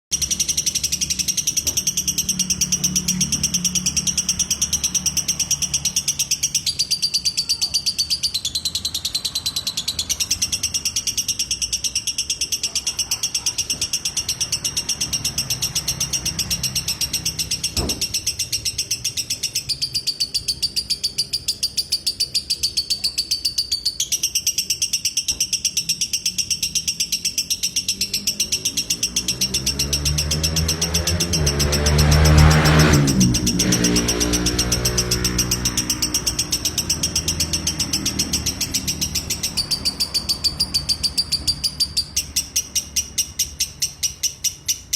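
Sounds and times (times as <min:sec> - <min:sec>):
bird chattering high-pitched: 0:00.1 - 0:44.9.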